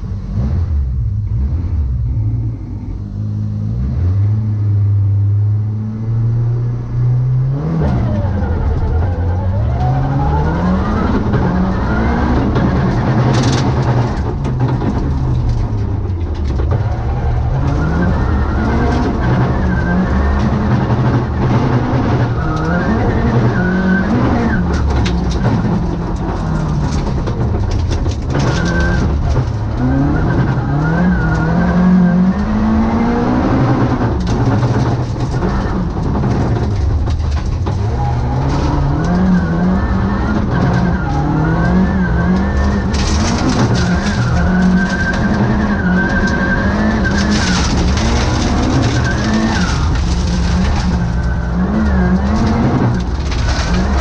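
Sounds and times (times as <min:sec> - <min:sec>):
rally car engine at full pace: 0:00.0 - 0:54.0.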